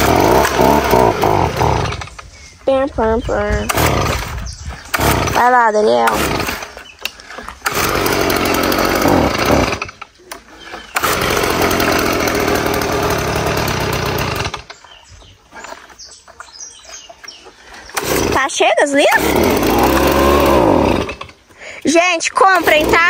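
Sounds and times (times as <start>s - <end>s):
leaf blower engine running: 0.0s - 2.4s, 3.3s - 15.0s, 17.7s - 23.0s.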